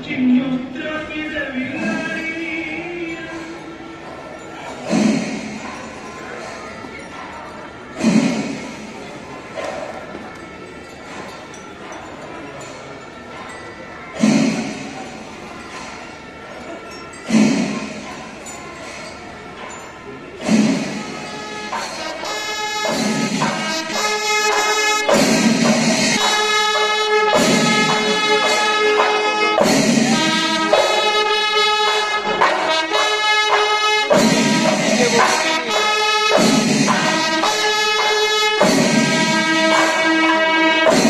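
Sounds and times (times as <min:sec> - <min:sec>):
instrumental music with held notes: 0:03.4 - 0:41.0.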